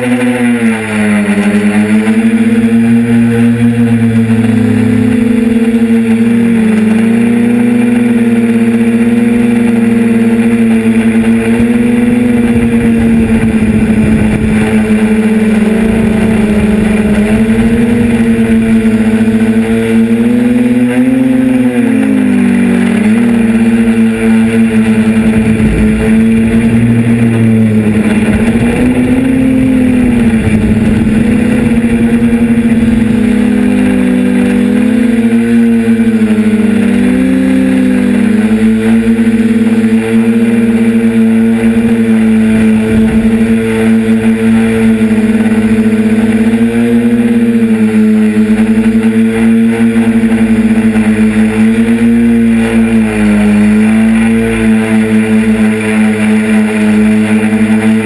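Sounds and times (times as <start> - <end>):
model aircraft engine and propeller: 0.0 - 58.0.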